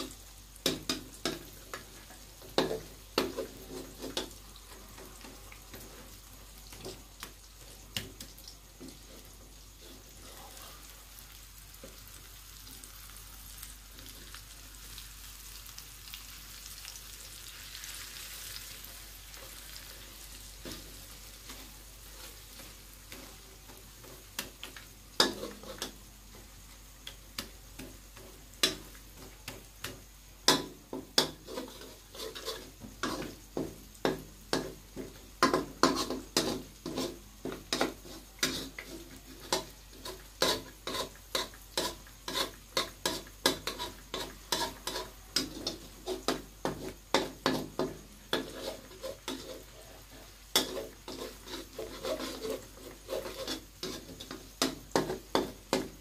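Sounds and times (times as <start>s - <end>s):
spatulas scraping a wok: 0.0s - 15.2s, 17.0s - 56.0s
faint sizzling: 0.0s - 56.0s.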